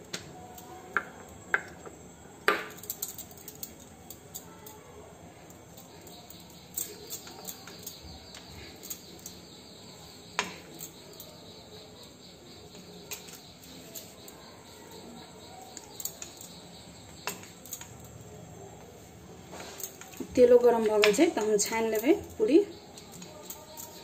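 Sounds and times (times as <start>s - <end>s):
glass bangles clinking: 2.5s - 18.7s, 19.5s - 24.0s.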